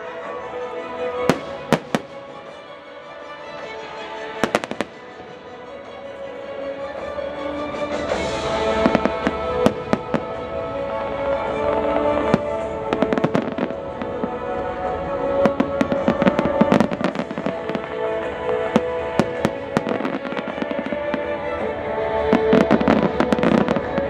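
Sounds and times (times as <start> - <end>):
music playing: 0.0 - 24.0
fireworks bursting with bangs and crackles: 1.0 - 6.0, 7.0 - 24.0.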